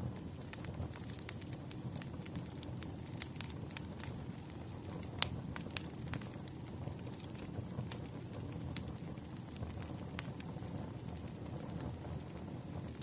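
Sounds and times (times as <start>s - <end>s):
firewood crackling and popping: 0.0s - 13.0s
low fire rumble: 0.0s - 13.0s.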